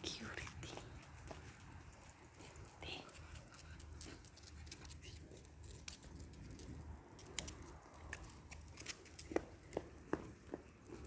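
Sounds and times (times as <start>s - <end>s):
faint footsteps on pavement: 0.0s - 11.0s.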